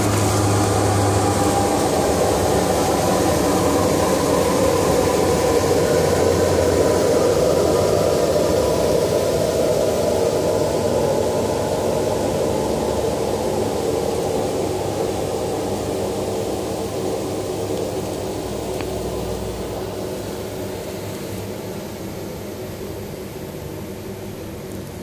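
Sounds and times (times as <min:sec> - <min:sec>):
cutting machine rushing hum: 0:00.0 - 0:21.5.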